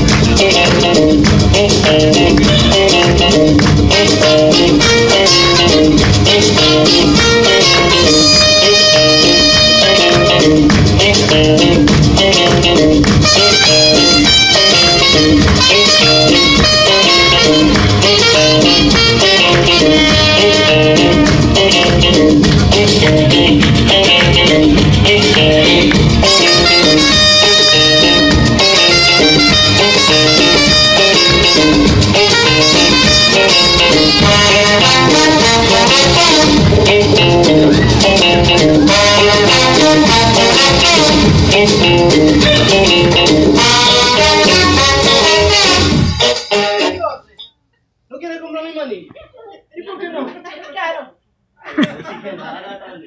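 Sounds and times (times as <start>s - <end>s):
latin music with plucked guitar: 0.0s - 47.6s.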